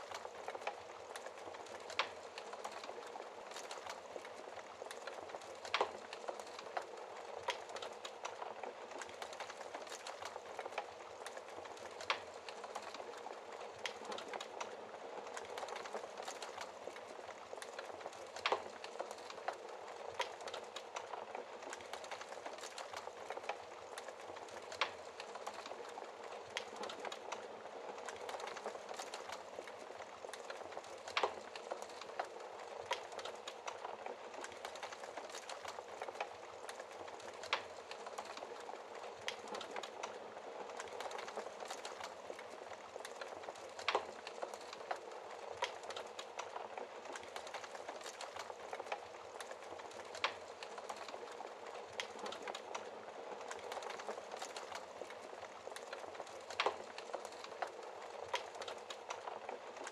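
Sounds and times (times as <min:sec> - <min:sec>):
fire hissing and crackling: 0:00.0 - 0:59.9.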